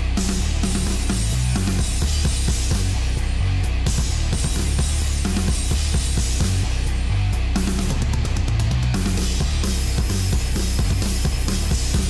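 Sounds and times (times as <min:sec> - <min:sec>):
heavy metal music with drums: 0:00.0 - 0:12.0.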